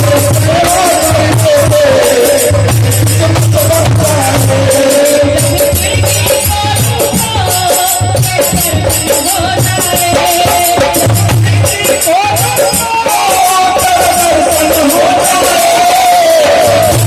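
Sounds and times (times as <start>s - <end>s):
shaken rattle percussion: 0.0s - 17.0s.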